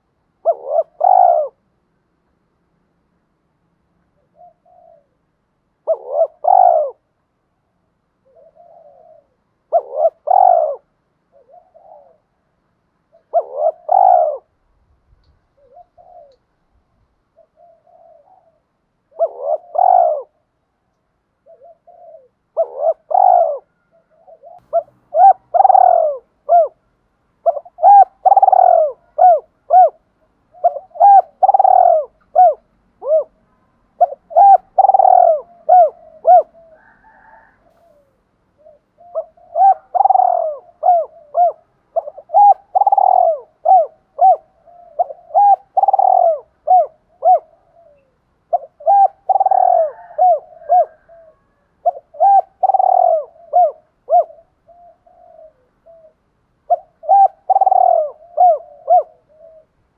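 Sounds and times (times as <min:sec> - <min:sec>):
dove cooing: 0:00.0 - 0:01.7, 0:04.1 - 0:07.2, 0:08.2 - 0:12.5, 0:13.1 - 0:14.6, 0:15.5 - 0:16.6, 0:17.3 - 0:20.6, 0:21.4 - 0:59.9.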